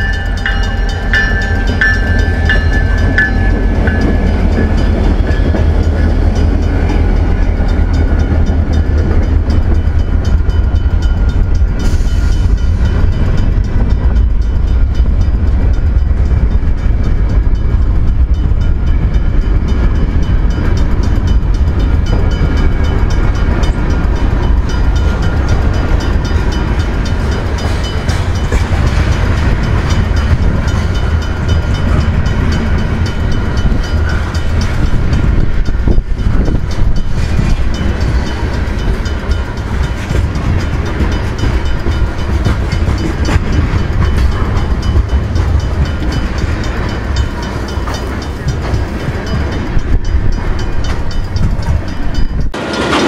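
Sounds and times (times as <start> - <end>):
diesel locomotive passing: 0.0 - 53.0
train wheels clicking on rail joints: 0.0 - 53.0.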